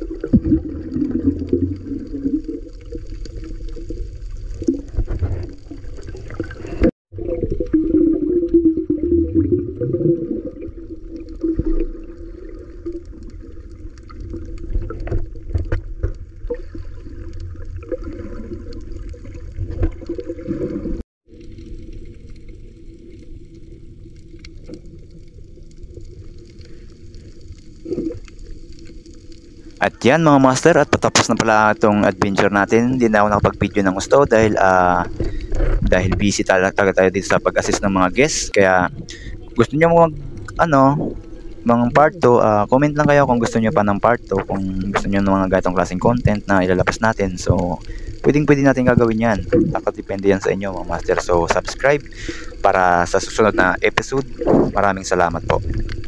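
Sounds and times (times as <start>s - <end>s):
muffled underwater water rush: 0.0s - 56.0s
underwater bubbling: 0.0s - 56.0s.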